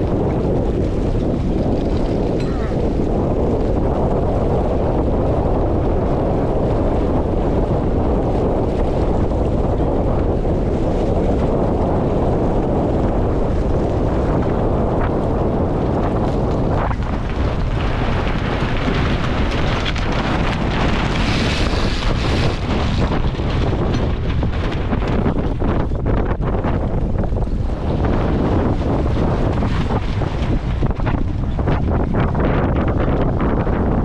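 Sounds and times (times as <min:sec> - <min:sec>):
water rushing along hull: 0:00.0 - 0:34.0
wind buffeting microphone: 0:00.0 - 0:34.0.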